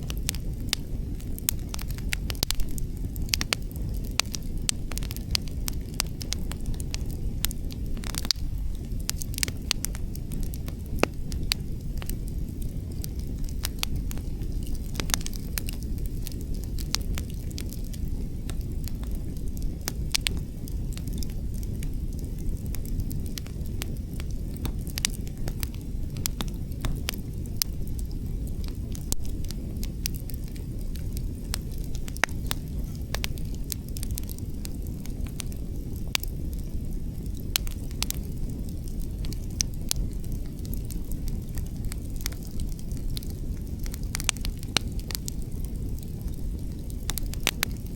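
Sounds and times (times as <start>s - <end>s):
campfire crackling and popping: 0.0s - 47.9s
low rumble of wind: 0.0s - 47.9s.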